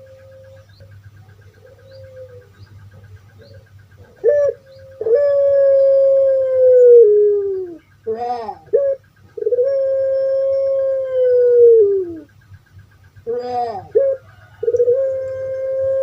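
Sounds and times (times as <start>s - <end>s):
dove calling: 0.0s - 16.0s.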